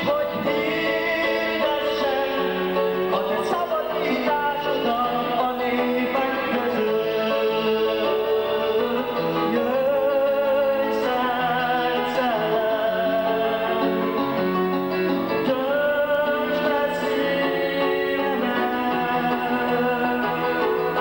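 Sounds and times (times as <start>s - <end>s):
electronic keyboard: 0.0s - 21.0s.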